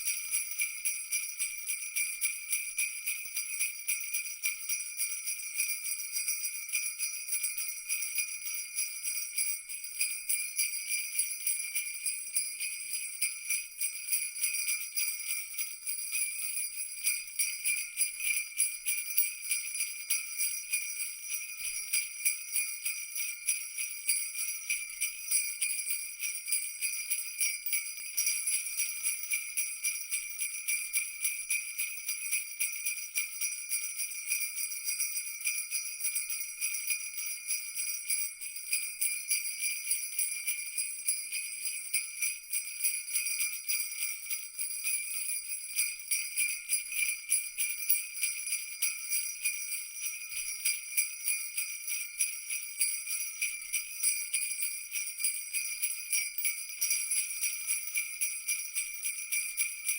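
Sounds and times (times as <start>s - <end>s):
jingle bells shaken: 0.0s - 59.9s.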